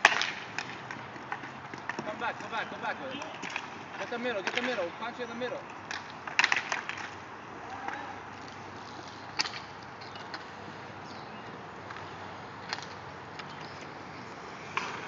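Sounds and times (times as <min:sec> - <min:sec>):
roller hockey rink noise: 0:00.0 - 0:15.0.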